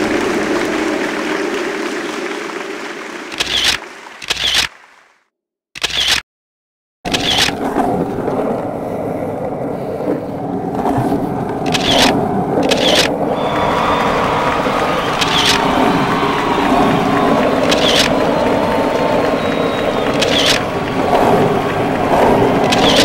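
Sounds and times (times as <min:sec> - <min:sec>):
skateboard rolling: 0:00.0 - 0:03.7, 0:07.1 - 0:23.0
skateboard clacks: 0:00.0 - 0:04.8, 0:07.1 - 0:23.0.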